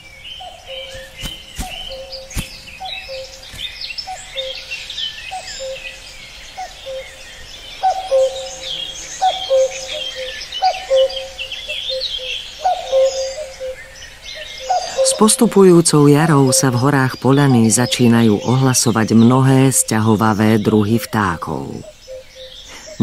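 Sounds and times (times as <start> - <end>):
cuckoo calling: 0.0 - 23.0
songbirds chirping: 0.0 - 23.0.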